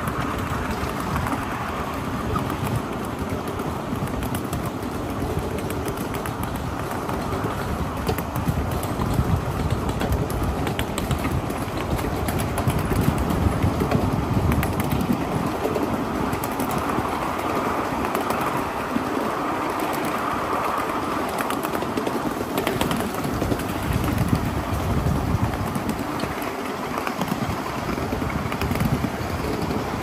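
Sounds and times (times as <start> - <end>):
model train wheels rumbling on rail: 0.0 - 30.0.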